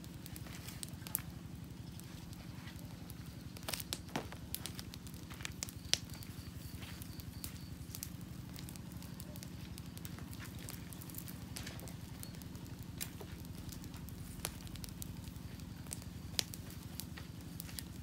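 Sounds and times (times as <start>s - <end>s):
campfire crackling and popping: 0.0s - 18.0s
steady low rumble: 0.0s - 18.0s.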